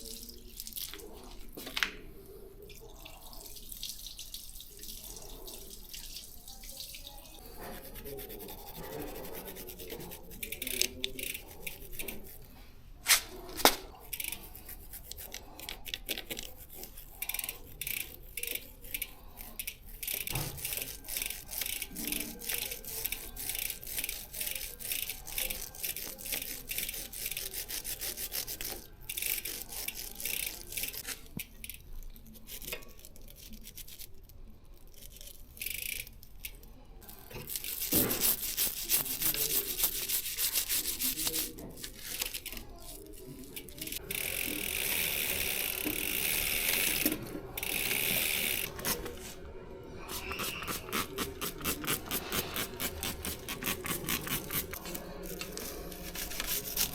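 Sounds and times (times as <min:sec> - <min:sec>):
brush scrubbing bicycle chain: 0:04.2 - 0:49.4, 0:50.0 - 0:56.9.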